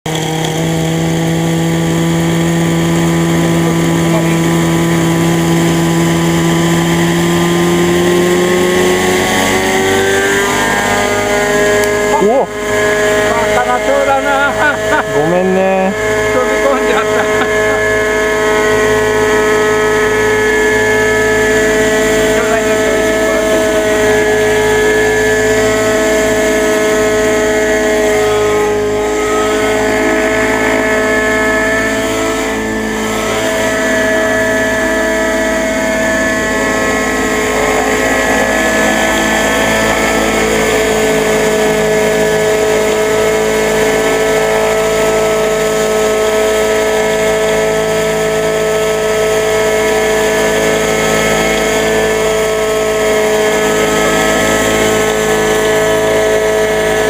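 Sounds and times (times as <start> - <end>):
engine running at high speed: 0.0 - 57.0.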